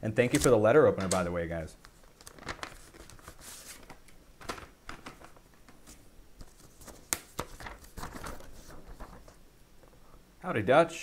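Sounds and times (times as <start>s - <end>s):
paper rustling and crinkling: 0.3s - 9.4s.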